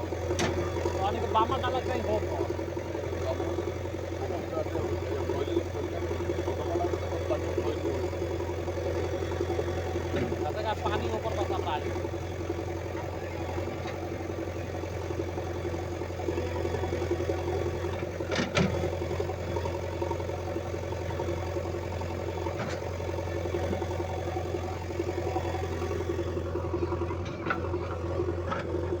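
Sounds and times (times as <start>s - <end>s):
heavy machine engine idling: 0.0s - 29.0s.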